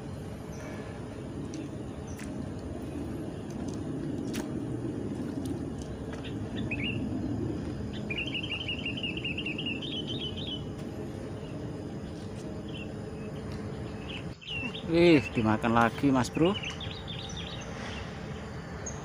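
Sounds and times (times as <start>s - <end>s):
steady low rumble: 0.0s - 19.0s
small bird chirping: 1.4s - 4.4s, 5.7s - 18.2s.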